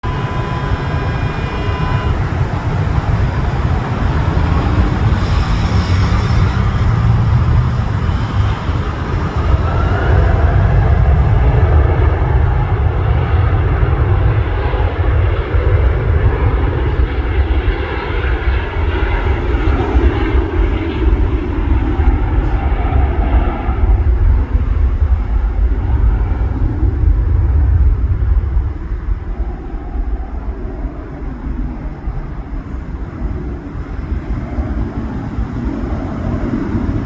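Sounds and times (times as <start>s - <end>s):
high jet whine: 0.0s - 37.0s
jet engine rumble: 0.0s - 37.0s.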